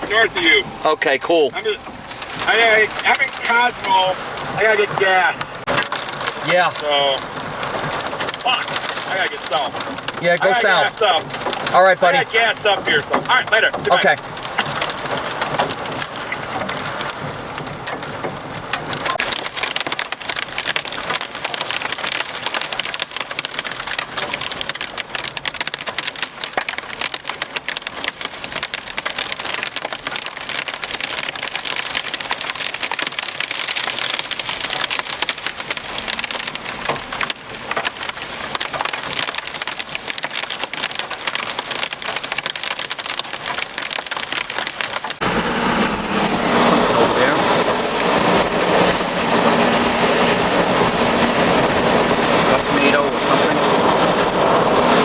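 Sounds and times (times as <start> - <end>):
rain and hail pelting vehicle: 0.0 - 55.0.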